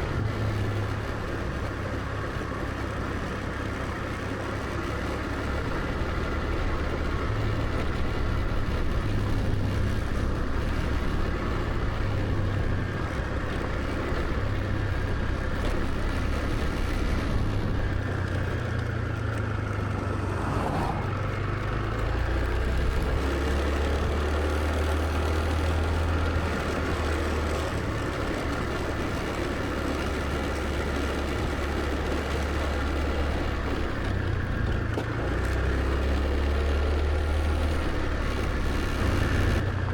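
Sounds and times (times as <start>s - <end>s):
road and wind noise: 0.0s - 39.9s
scooter engine drone: 0.0s - 39.9s.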